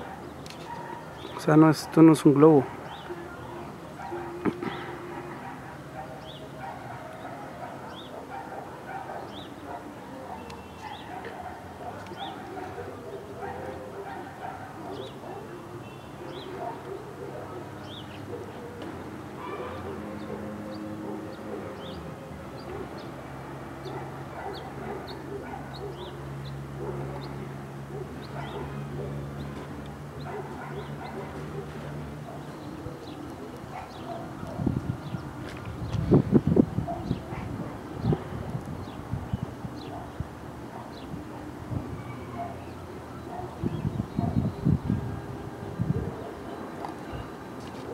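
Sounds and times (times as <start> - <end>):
steady background noise: 0.0 - 47.9.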